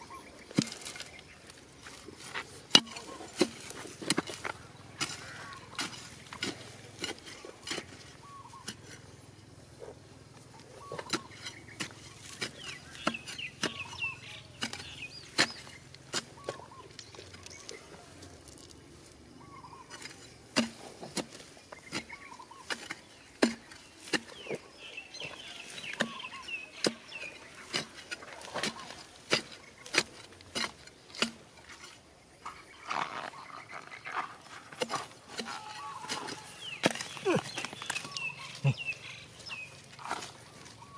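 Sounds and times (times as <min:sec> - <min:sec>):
iron bar striking stony soil: 0:00.4 - 0:01.2, 0:01.8 - 0:09.1, 0:10.8 - 0:17.6, 0:19.9 - 0:40.9.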